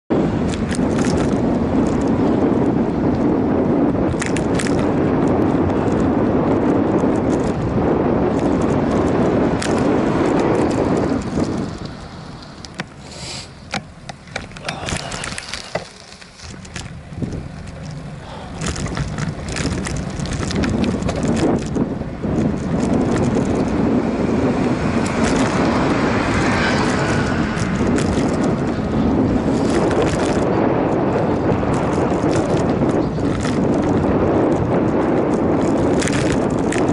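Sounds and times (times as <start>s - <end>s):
wind rushing over microphone: 0.1s - 36.9s
bicycle clicks and rattles: 0.2s - 13.0s, 13.6s - 36.9s.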